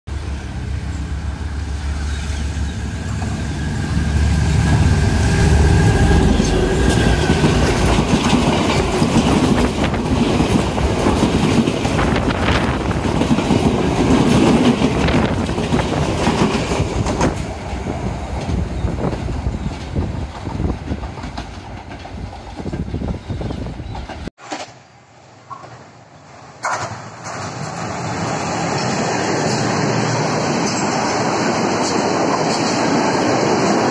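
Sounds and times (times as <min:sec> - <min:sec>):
diesel locomotive engine drone: 0:00.1 - 0:24.3, 0:25.0 - 0:33.9
wheels clacking over rail joints: 0:02.9 - 0:24.8, 0:26.6 - 0:33.9.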